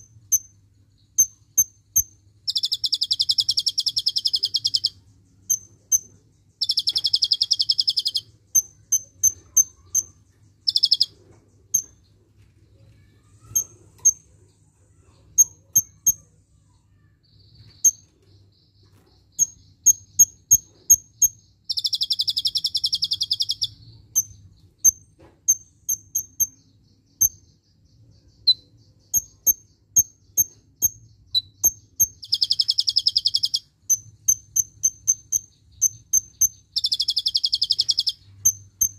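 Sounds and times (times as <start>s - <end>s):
bird chipping: 0.0s - 12.2s, 13.0s - 38.9s.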